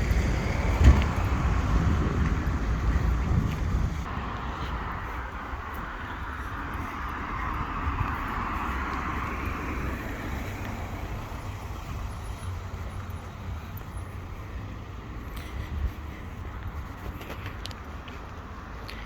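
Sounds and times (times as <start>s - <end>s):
car passing: 0.0s - 16.4s
road noise rumble: 0.0s - 19.0s.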